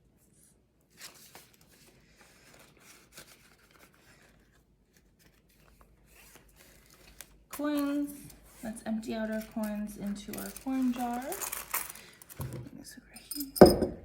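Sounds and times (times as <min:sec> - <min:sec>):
rustling paper banknotes: 0:00.9 - 0:12.6.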